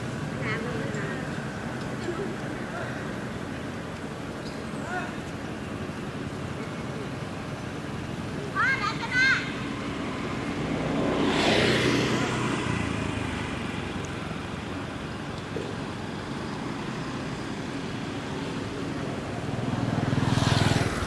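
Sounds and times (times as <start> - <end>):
traffic engine hum: 0.0 - 21.0
vehicles passing by: 0.0 - 21.0.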